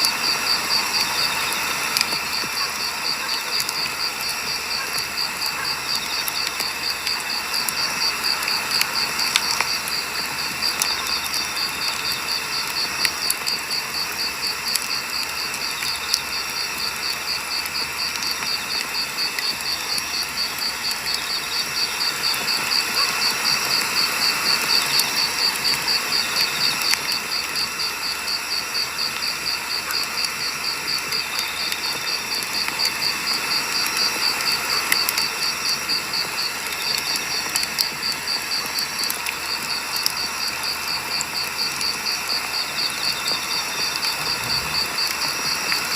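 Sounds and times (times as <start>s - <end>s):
campfire crackling and popping: 0.0s - 45.9s
insect chirping: 0.0s - 45.9s.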